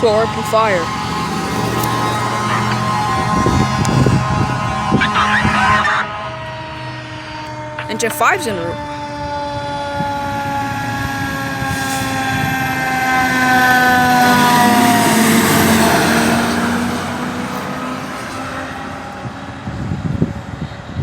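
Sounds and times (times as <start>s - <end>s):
engine and road noise: 0.0s - 21.0s
fire engine siren: 0.0s - 21.0s.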